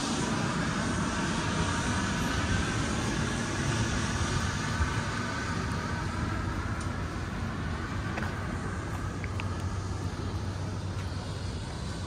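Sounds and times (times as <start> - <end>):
low hum: 0.0 - 12.0
road traffic: 0.0 - 12.0.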